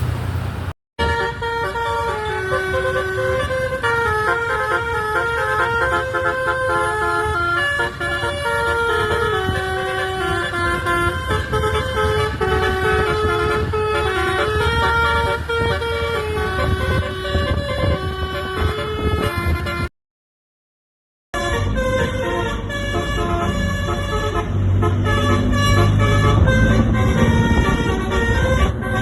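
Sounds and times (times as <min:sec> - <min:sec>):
low bus rumble: 0:00.0 - 0:19.9, 0:21.4 - 0:29.0
multi-tone air horn tune: 0:01.0 - 0:19.9, 0:21.4 - 0:29.0.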